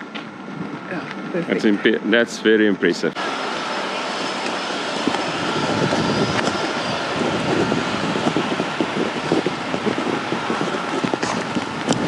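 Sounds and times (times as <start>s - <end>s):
faint high whine: 0.0s - 12.0s
wind buffeting microphone: 0.0s - 12.0s.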